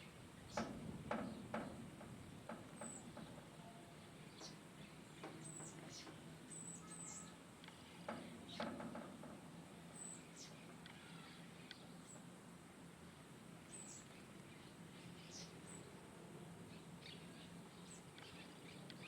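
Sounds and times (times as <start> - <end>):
small birds chirping: 0.0 - 1.8, 2.4 - 9.0, 9.8 - 12.4, 13.6 - 16.0, 16.6 - 19.0.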